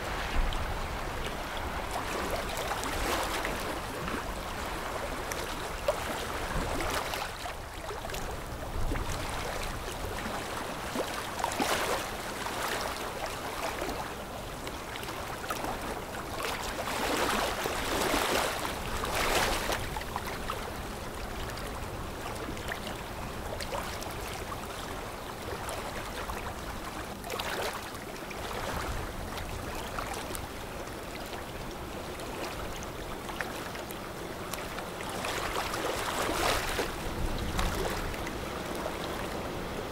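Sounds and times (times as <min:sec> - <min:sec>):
river water washing and splashing: 0:00.0 - 0:39.9.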